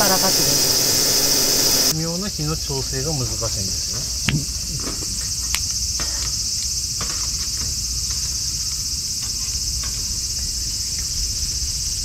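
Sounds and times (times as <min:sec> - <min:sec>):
high insect chorus: 0:00.0 - 0:12.0.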